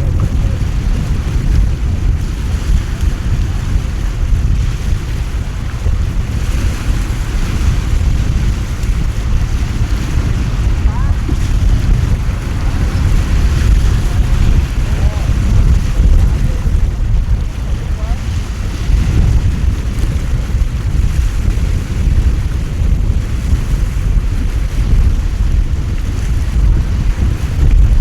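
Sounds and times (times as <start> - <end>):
heavy rain: 0.0 - 28.0
wind buffeting microphone: 0.0 - 28.0.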